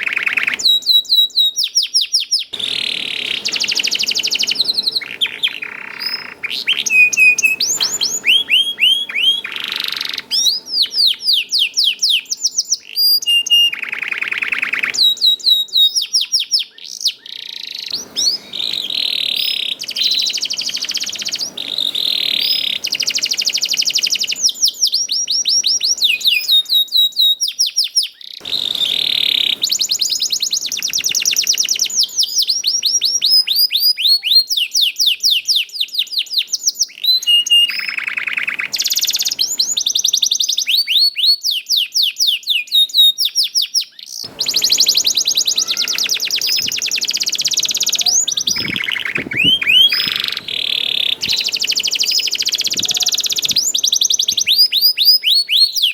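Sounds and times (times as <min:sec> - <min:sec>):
canary singing: 0:00.0 - 0:55.9.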